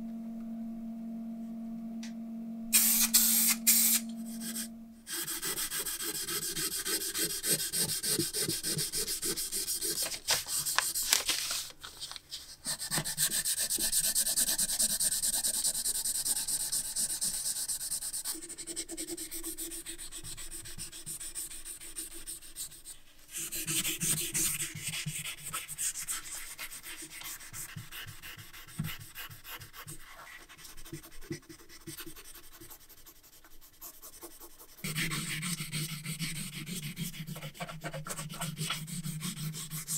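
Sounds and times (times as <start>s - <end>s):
brush rubbing on metal: 2.8s - 11.2s, 12.6s - 39.9s.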